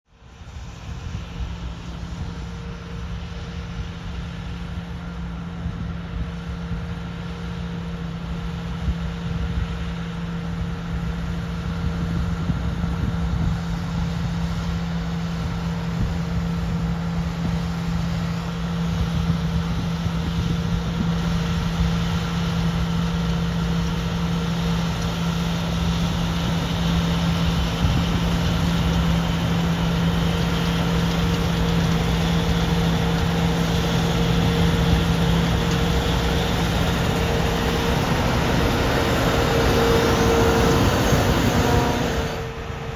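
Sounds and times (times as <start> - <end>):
combine harvester engine hum: 0.1 - 42.9
steady machine whine: 0.2 - 42.9.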